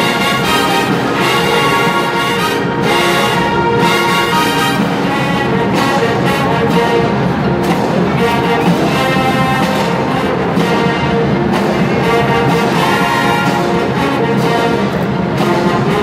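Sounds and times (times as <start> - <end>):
band percussion: 0.0 - 16.0
brass chords: 0.0 - 16.0.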